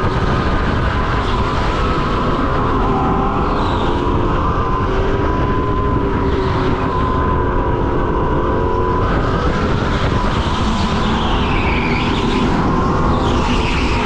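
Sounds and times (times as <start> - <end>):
go-kart motor whining: 0.0 - 14.0
heavy rumble: 0.0 - 14.0
wind noise: 0.0 - 14.0.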